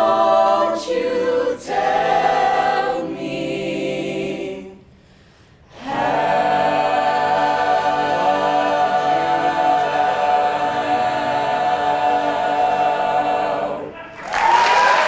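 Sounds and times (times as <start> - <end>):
a cappella group holding a chord: 0.0 - 14.2.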